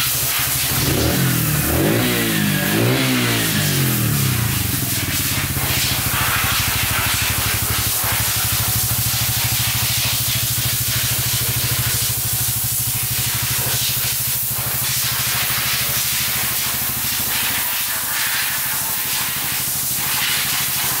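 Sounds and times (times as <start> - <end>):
motorcycle engine idling: 0.0 - 21.0
steady hiss: 0.0 - 21.0.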